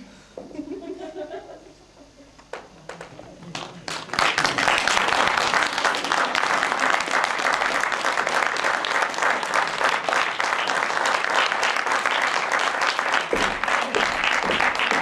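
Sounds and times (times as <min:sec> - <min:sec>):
audience applauding: 0:02.9 - 0:15.0.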